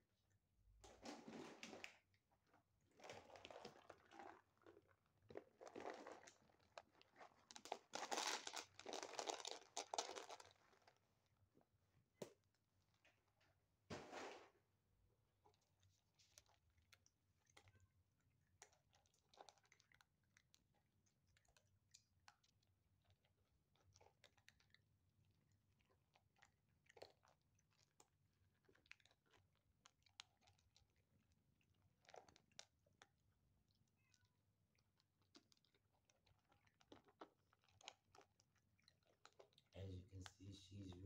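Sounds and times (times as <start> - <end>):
kittens crunching dry food: 1.0 - 13.0, 15.4 - 39.7.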